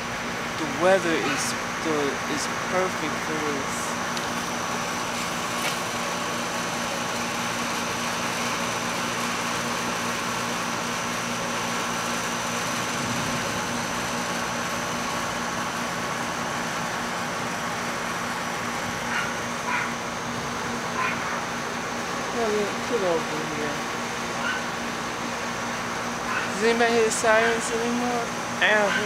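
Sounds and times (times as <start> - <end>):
low machine hum with held tones: 0.0 - 29.0.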